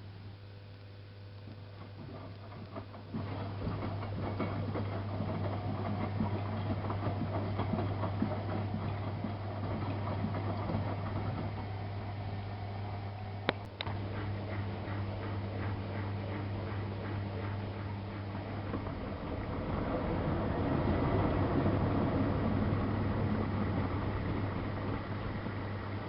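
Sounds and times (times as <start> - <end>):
washing machine motor hum: 0.0 - 26.0
wet laundry swishing and clattering: 1.9 - 12.2, 14.0 - 26.0.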